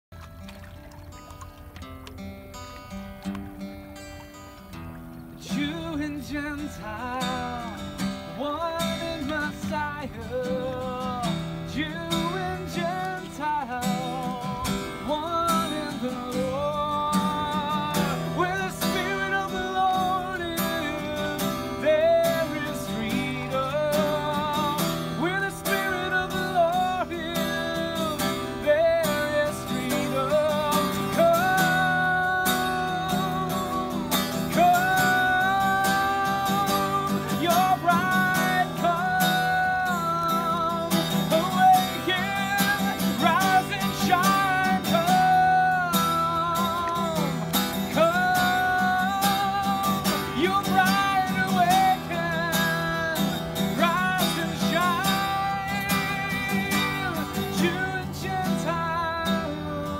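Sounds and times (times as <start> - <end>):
acoustic guitar strumming: 0.2 - 59.9
man singing with vibrato: 5.3 - 59.9.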